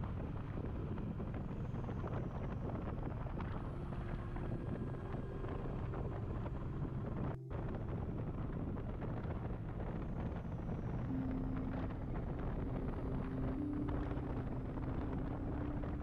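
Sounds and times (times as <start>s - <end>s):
motorcycle engine drone: 0.0s - 16.0s
wind rushing over microphone: 0.0s - 16.0s.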